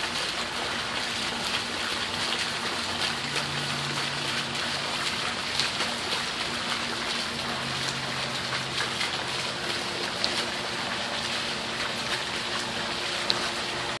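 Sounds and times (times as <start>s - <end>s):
water drips: 0.0s - 14.0s
water trickling: 0.0s - 14.0s.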